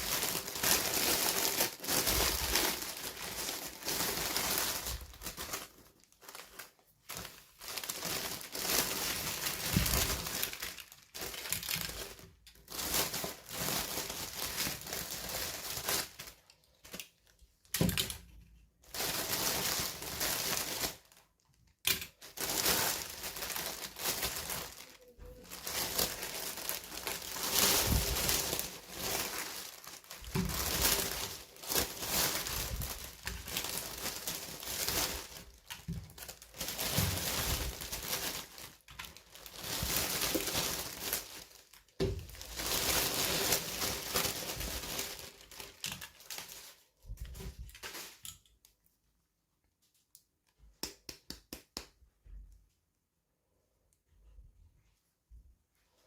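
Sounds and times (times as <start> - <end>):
packaging crinkling and tearing: 0.0 - 18.2, 18.8 - 48.4.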